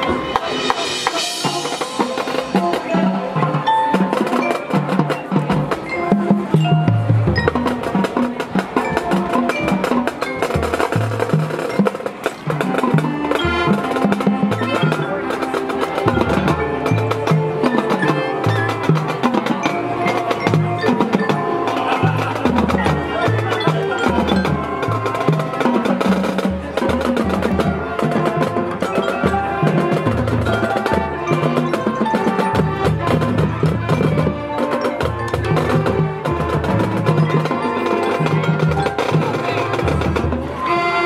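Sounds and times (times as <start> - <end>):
mallet percussion: 0.0 - 41.0
marching band playing: 0.0 - 41.0
marching drums: 0.0 - 41.0.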